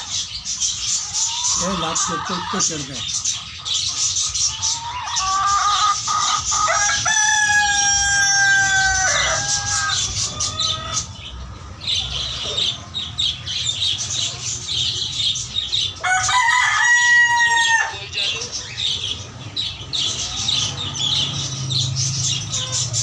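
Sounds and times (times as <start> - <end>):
many birds chirping: 0.0 - 23.0.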